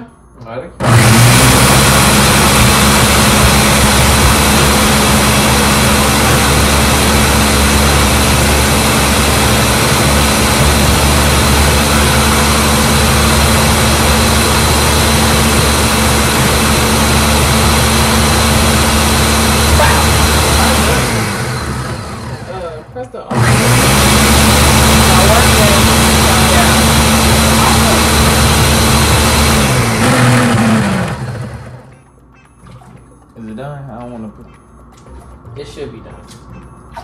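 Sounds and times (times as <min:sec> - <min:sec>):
blender grinding chips: 0:00.8 - 0:22.6, 0:23.3 - 0:31.9.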